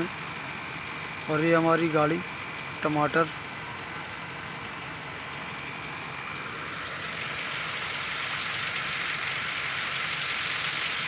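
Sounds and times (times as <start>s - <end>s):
truck engines idling: 0.0s - 11.0s.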